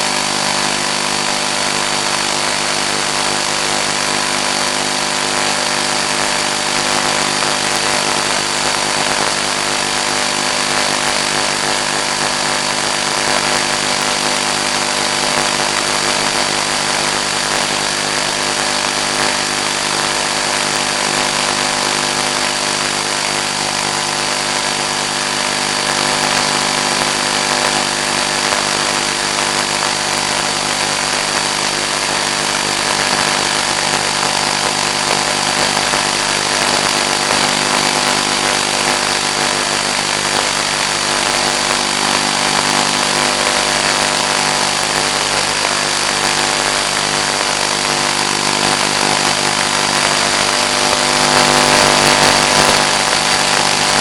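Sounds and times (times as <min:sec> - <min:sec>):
loud steady hiss: 0:00.0 - 0:54.0.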